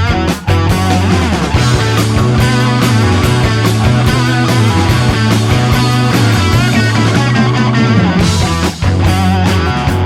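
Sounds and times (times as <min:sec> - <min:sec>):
rock music: 0:00.0 - 0:10.0.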